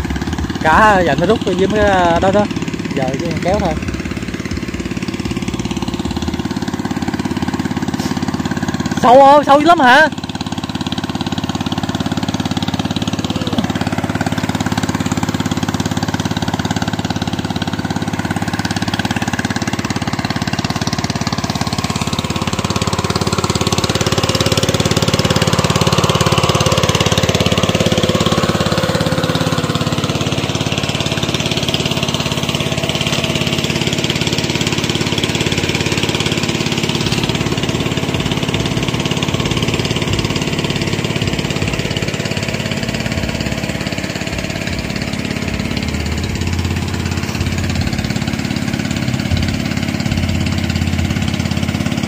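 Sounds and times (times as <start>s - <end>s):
engine-driven water pump running: 0.0s - 52.0s.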